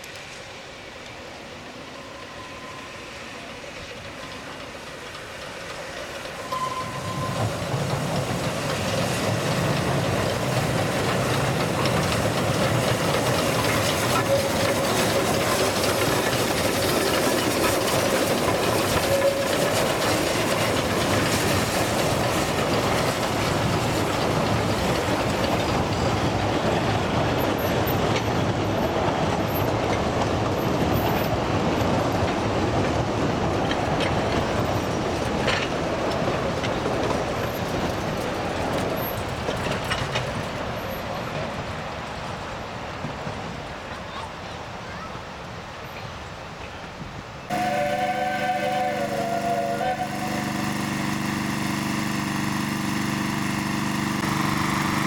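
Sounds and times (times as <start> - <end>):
steam train passing: 0.0 - 55.0
wheels clickety-clack on rails: 0.0 - 55.0.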